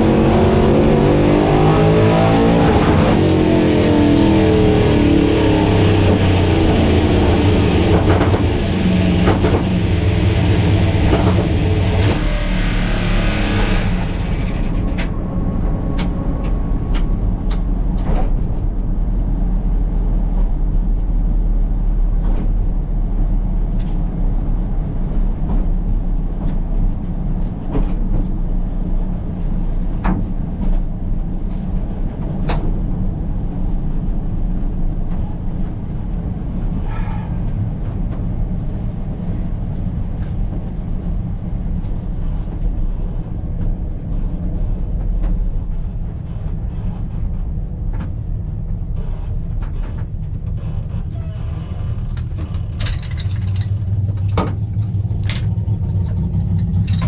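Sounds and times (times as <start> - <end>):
race car engine running rough: 0.0 - 57.0.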